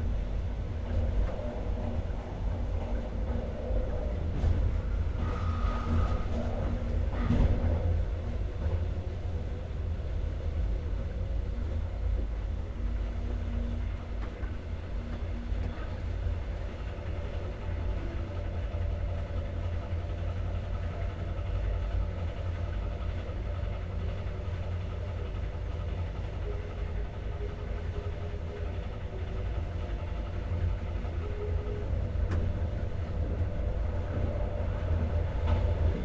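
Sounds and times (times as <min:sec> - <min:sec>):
train rumble and hum: 0:00.0 - 0:36.0.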